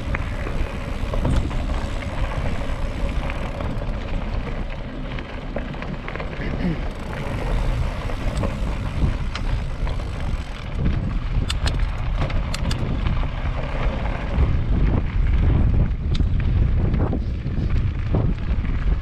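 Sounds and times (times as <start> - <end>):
bike clicks and rattles: 0.0 - 19.0
wind buffeting microphone: 0.0 - 19.0.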